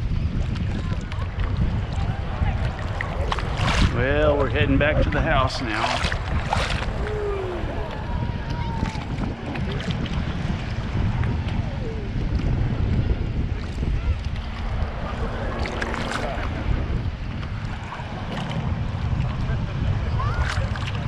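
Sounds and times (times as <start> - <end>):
surf sloshing around wader: 0.0 - 21.0
wind buffeting microphone: 0.0 - 21.0.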